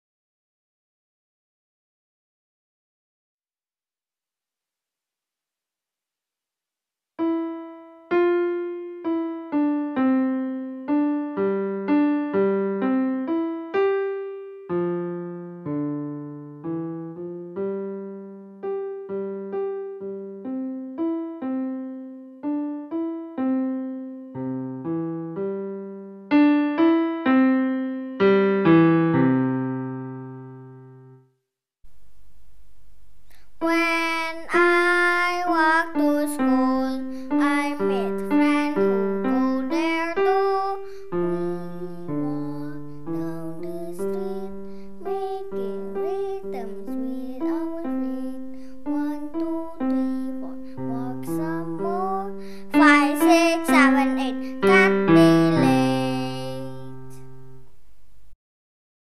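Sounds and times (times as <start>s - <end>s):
digital piano melody: 7.2s - 31.2s, 31.9s - 58.2s.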